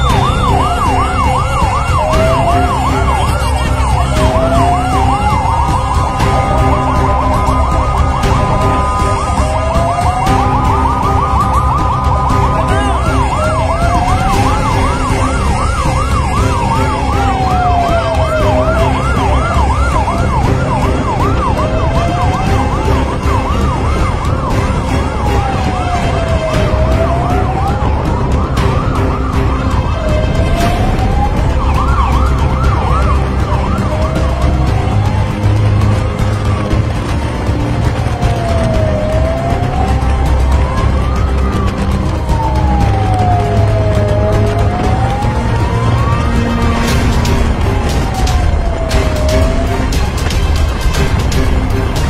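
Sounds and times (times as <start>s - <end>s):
siren fast yelp: 0.0s - 37.1s, 37.8s - 50.4s
engine and traffic rumble: 0.0s - 52.0s
siren wailing: 0.0s - 52.0s.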